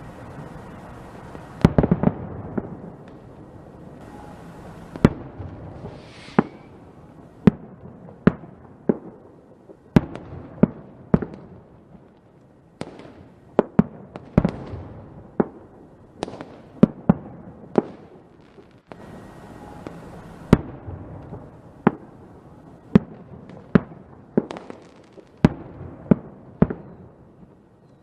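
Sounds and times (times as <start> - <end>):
fireworks bangs: 0.0 - 12.2, 12.8 - 27.9.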